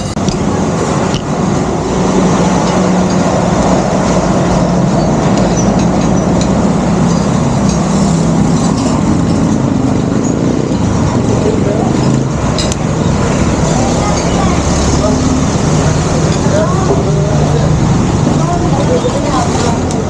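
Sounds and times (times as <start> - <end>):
engine drone: 0.0 - 20.0
road and wind noise: 0.0 - 20.0.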